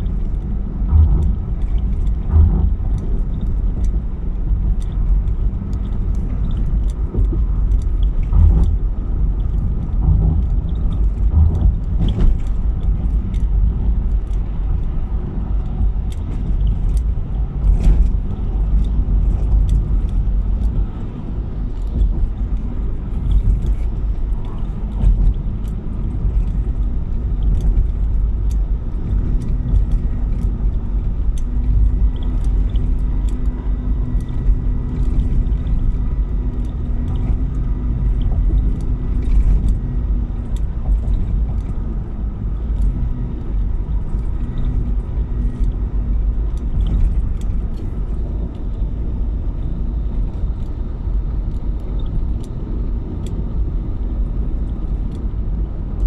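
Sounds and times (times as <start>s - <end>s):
light ticks: 0.0s - 48.9s, 49.5s - 56.0s
car engine and tyre rumble: 0.0s - 56.0s.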